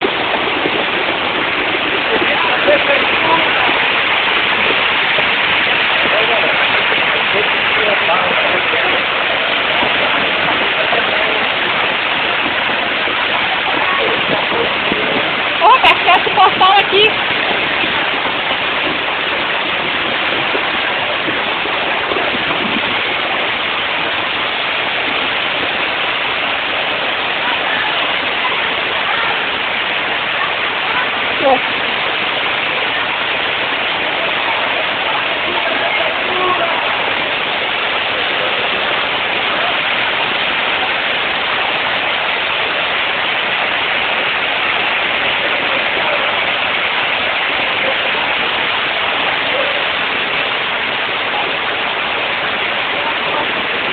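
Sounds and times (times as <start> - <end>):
floodwater rushing torrent: 0.0 - 53.9.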